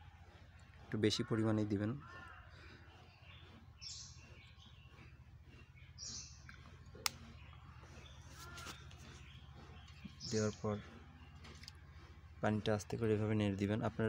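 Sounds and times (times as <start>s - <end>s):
faint bird calls: 0.0s - 12.7s
steady low hum: 0.0s - 14.0s.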